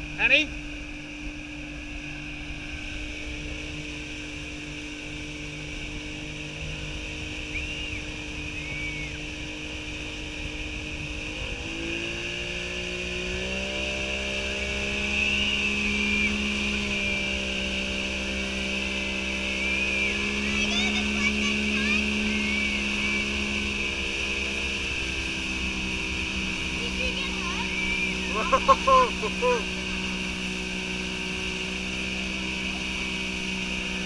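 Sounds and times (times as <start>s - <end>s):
outboard motor running: 0.0s - 34.0s
rushing boat wake: 0.0s - 34.0s
wind: 0.0s - 34.0s.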